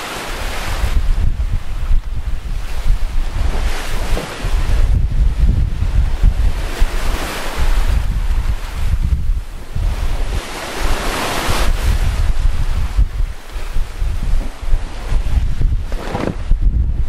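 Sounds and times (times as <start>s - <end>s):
rough sea rushing along hull: 0.0s - 17.0s
waves breaking and washing past: 0.0s - 17.0s
wind buffeting microphone: 0.0s - 17.0s.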